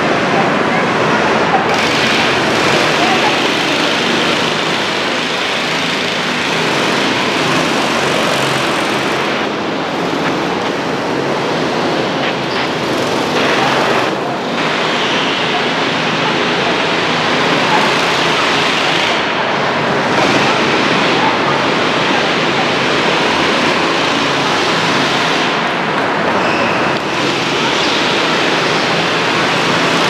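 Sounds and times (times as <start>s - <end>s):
go-kart engines echoing: 0.0s - 30.0s.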